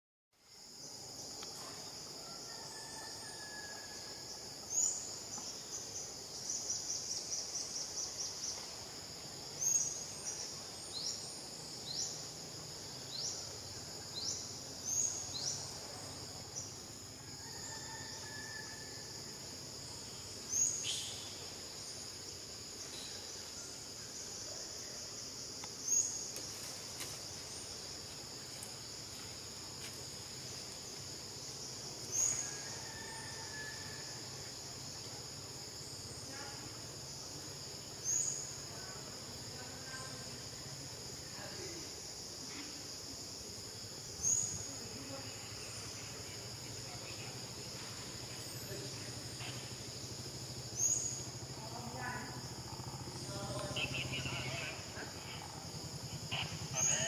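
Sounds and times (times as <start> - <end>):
insect chorus: 0.4 - 57.0.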